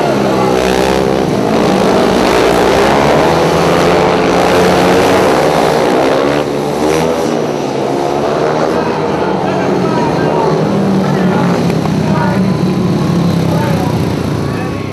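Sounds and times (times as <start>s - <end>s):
motorcycles racing at full throttle: 0.0s - 14.9s.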